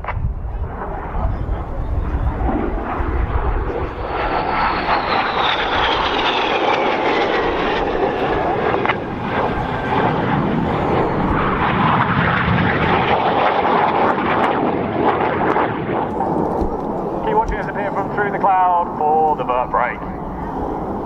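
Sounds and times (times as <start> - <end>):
jet engines passing by: 0.0 - 21.0.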